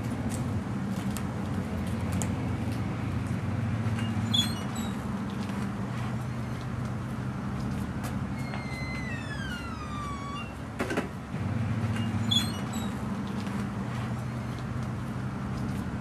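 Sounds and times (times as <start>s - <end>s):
bus engine humming: 0.0s - 16.0s.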